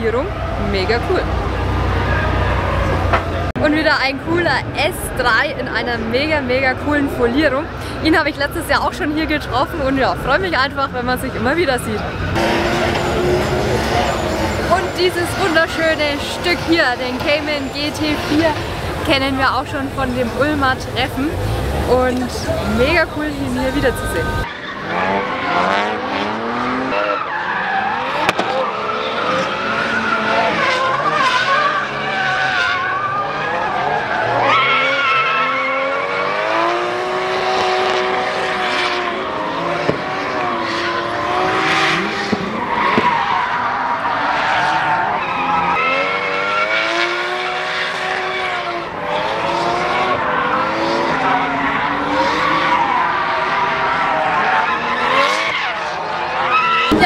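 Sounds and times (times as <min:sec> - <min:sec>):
car engines revving: 0:00.0 - 0:57.0
tyres squealing: 0:08.2 - 0:25.7, 0:26.9 - 0:57.0.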